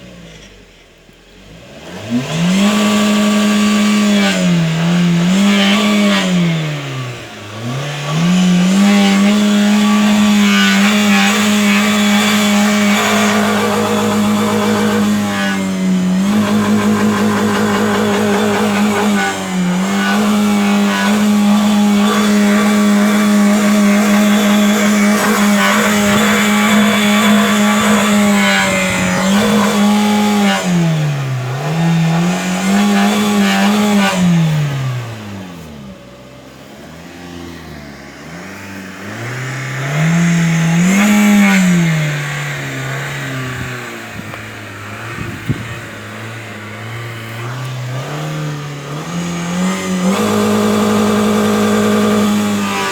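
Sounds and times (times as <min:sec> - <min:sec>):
car engine revving hard: 0:00.0 - 0:52.9.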